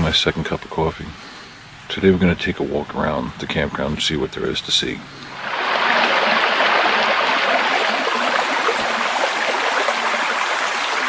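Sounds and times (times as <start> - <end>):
running water rushing: 1.8 - 11.0.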